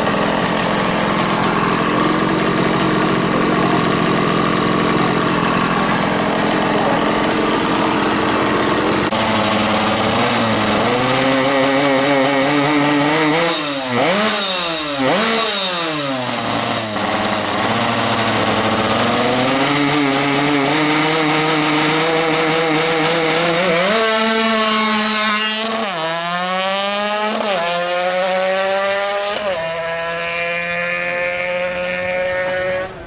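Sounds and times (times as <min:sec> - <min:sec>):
two-stroke engine revving high: 0:00.0 - 0:33.0.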